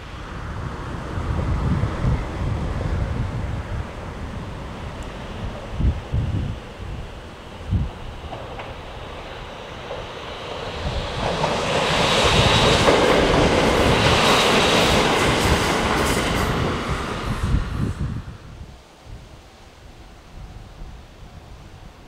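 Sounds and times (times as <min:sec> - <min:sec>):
electric train passing: 0:00.0 - 0:19.0
wind buffeting microphone: 0:00.0 - 0:22.0.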